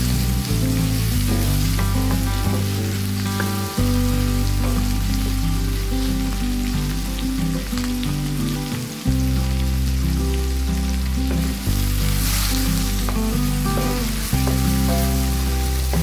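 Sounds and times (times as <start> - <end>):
background music with held chords: 0.0 - 16.0
onion and garlic sizzling in a wok: 0.0 - 16.0.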